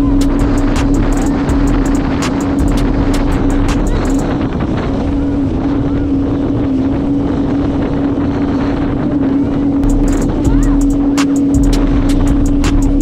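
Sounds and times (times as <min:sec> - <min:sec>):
watercraft engine humming: 0:00.0 - 0:08.0, 0:09.4 - 0:13.0
wind buffeting microphone: 0:00.0 - 0:13.0.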